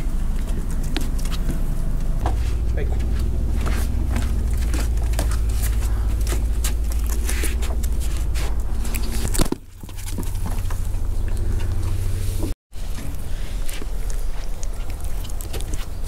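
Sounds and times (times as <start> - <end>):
footsteps on wooden deck: 0.0 - 14.6
low microphone rumble: 0.0 - 16.0.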